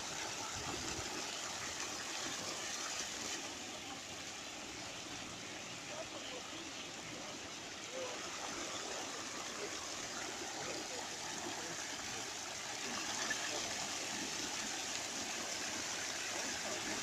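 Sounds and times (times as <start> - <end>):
fountain water spraying: 0.0 - 17.0.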